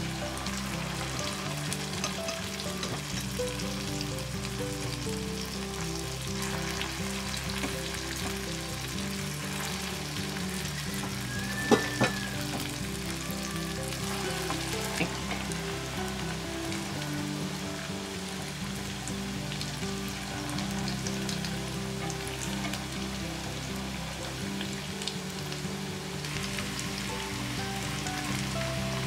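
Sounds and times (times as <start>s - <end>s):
food sizzling in hot oil: 0.0s - 29.0s
soft background music: 0.0s - 29.0s.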